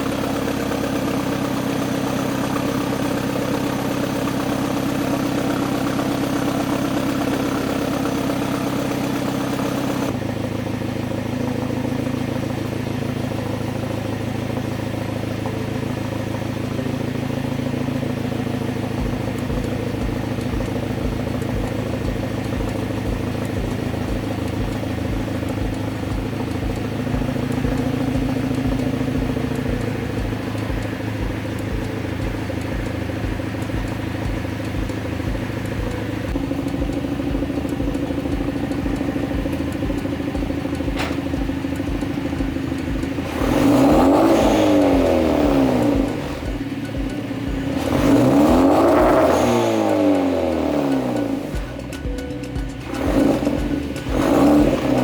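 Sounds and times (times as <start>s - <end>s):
car engine idling: 0.0s - 55.0s
low pulsing rumble: 0.0s - 55.0s.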